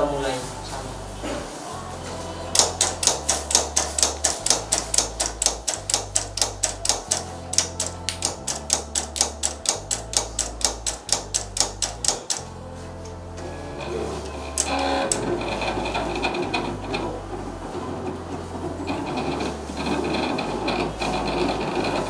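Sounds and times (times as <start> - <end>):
background music: 0.0 - 22.0
cutting plotter clicking: 2.5 - 12.5, 14.2 - 22.0.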